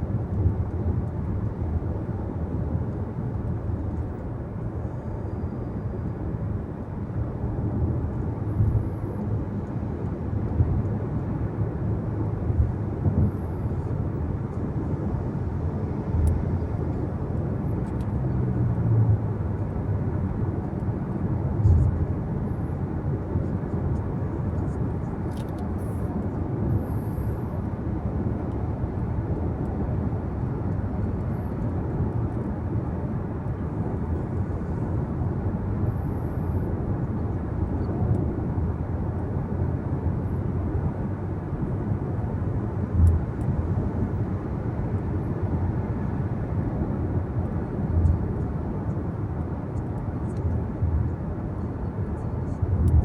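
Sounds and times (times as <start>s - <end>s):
car cabin road and engine rumble: 0.0s - 53.0s.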